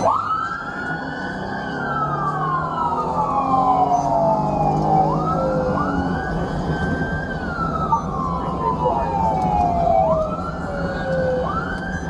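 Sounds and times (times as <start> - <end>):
low vehicle hum: 0.0 - 12.0
police siren wailing: 0.0 - 12.0.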